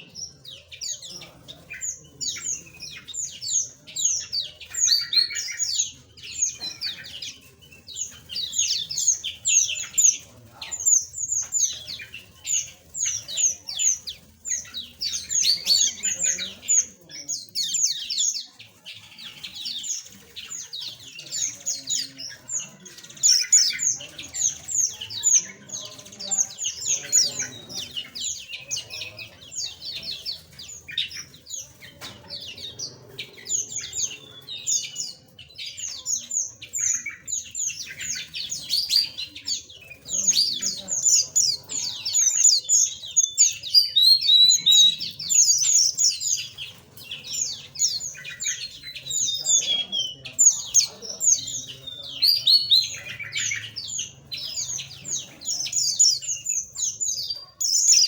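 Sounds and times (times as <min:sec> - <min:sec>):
flock of small birds chirping: 0:00.0 - 0:58.0.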